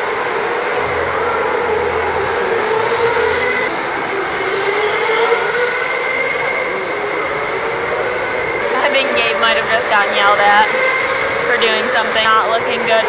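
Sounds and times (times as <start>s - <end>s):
go-kart motors whining: 0.0s - 13.0s.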